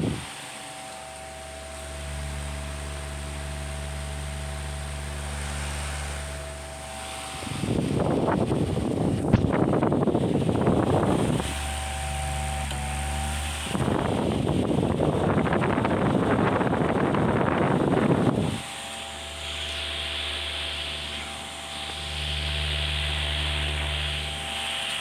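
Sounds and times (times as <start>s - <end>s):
electric fan motor hum: 0.0s - 25.0s.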